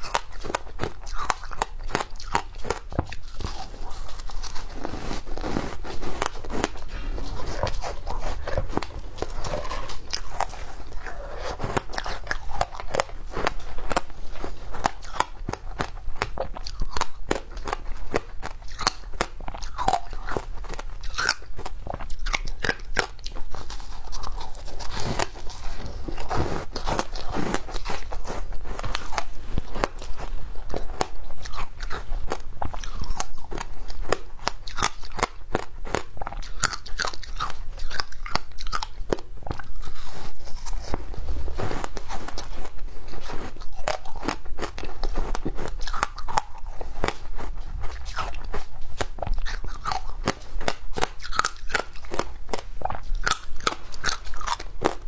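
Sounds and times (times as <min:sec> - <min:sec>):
ice crunching between teeth: 0:00.0 - 0:55.0.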